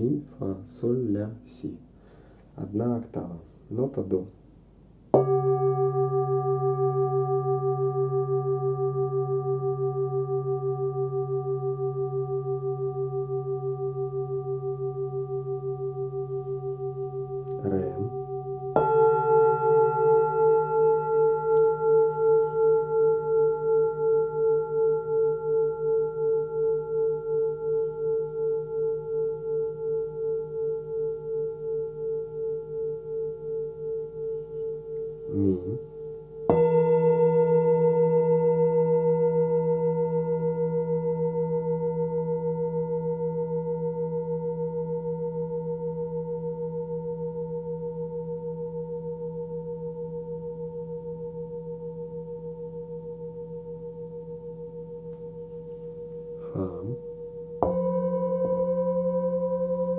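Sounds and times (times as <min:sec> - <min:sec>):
singing bowl ringing: 0:05.1 - 0:59.9.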